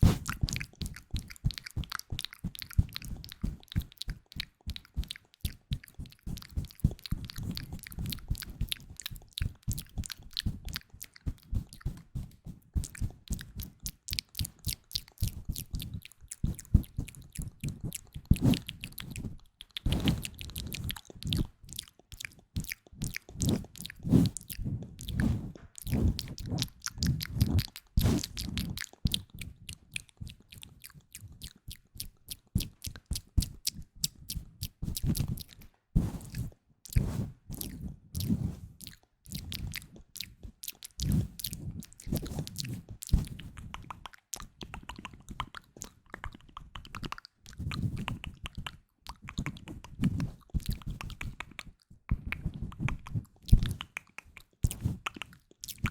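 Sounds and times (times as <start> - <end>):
soft rhythmic low thumps: 0.0 - 55.9.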